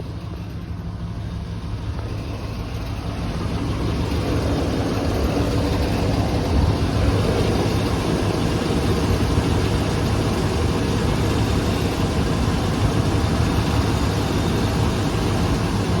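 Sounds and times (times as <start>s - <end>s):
engine knock: 0.0s - 16.0s
engine running steadily: 0.0s - 16.0s.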